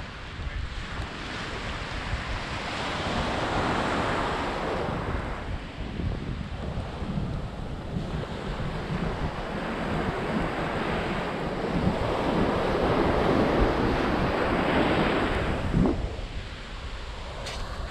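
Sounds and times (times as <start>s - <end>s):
surf rushing: 0.0s - 17.9s
wind buffeting microphone: 0.0s - 17.9s.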